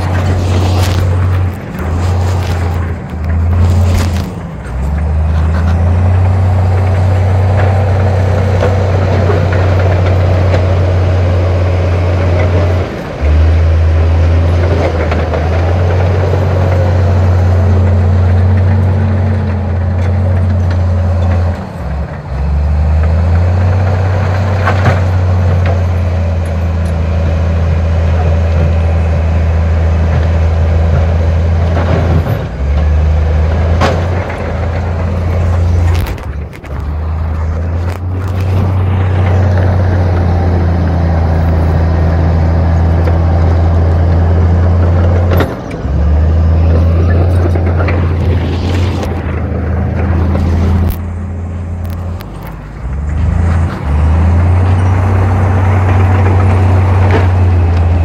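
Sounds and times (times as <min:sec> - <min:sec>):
heavy machinery rumbling: 0:00.0 - 0:58.0.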